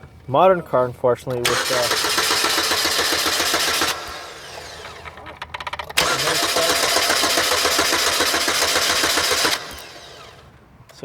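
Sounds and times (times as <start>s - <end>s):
car engine cranking on starter: 1.3s - 10.6s.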